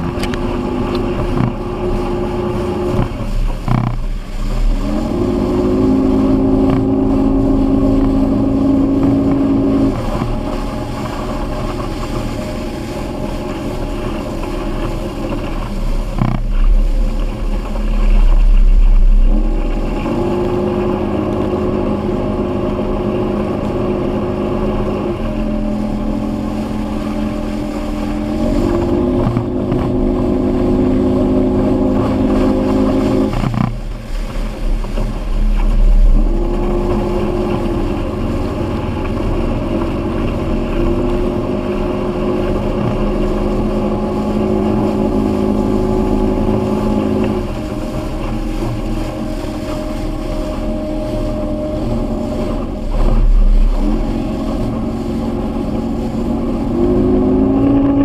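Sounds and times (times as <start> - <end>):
outboard motor running: 0.0 - 58.0
water rushing: 0.0 - 58.0
wind rushing: 0.0 - 58.0.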